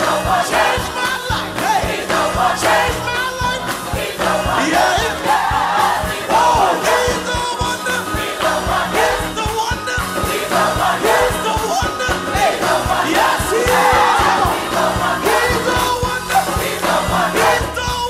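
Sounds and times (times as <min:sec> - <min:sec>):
drums beating: 0:00.0 - 0:18.0
gospel choir singing with band: 0:00.0 - 0:18.0.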